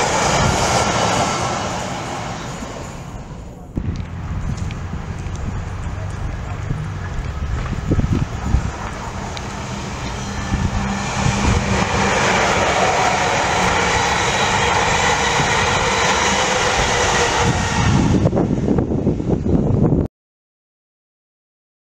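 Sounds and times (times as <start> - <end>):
train passing at speed: 0.0 - 20.1.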